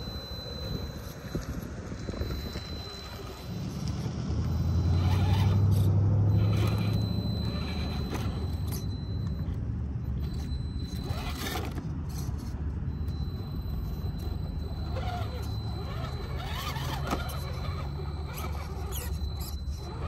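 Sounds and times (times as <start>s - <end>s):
rc car motor drone: 0.0s - 9.5s, 10.1s - 20.0s
tyres scraping and crunching: 0.7s - 20.0s.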